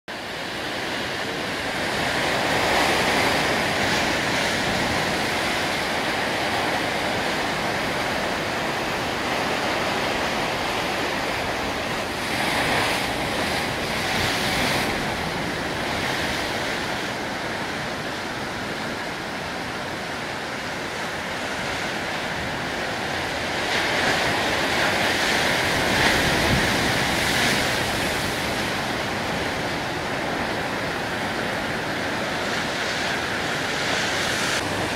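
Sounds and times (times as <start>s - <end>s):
waves surging and breaking: 0.1s - 34.9s
wind: 0.1s - 34.9s.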